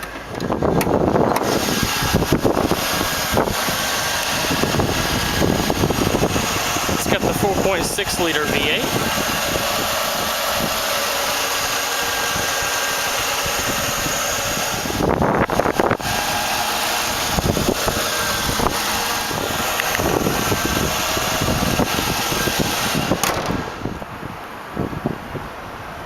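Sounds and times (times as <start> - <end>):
car engine idling: 0.0 - 24.3.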